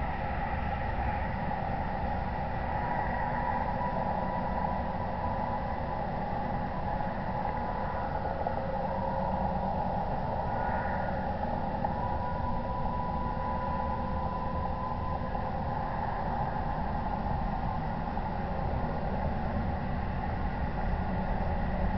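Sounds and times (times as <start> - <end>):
faint hum: 0.0 - 21.9.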